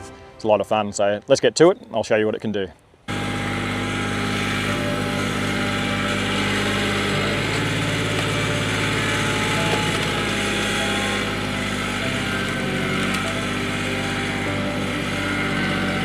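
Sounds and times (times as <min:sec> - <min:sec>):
tractor engine running: 0:03.1 - 0:16.0.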